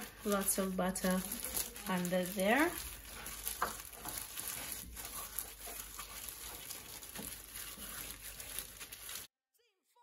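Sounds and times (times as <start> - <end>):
plastic glove crinkling: 0.0 - 9.3.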